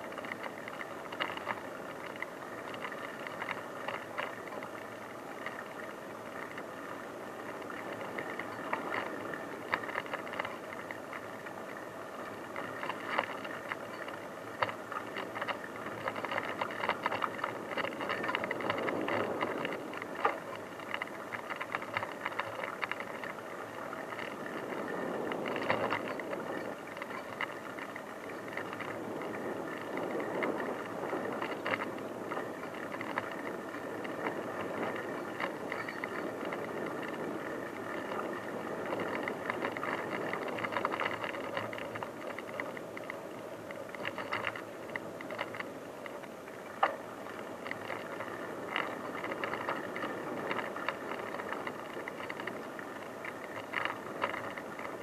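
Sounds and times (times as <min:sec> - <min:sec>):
bicycle tyres on rough track: 0:00.0 - 0:55.0
bike rattling and clicking: 0:00.0 - 0:55.0.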